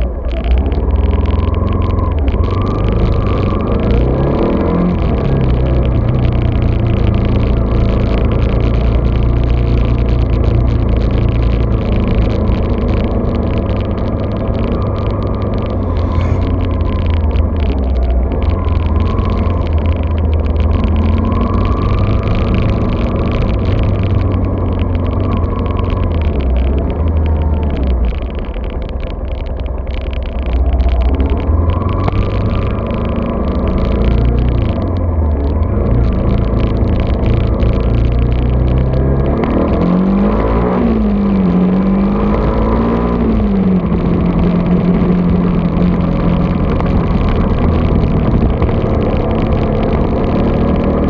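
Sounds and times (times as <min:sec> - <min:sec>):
muffled vehicle rumble: 0:00.0 - 0:51.0.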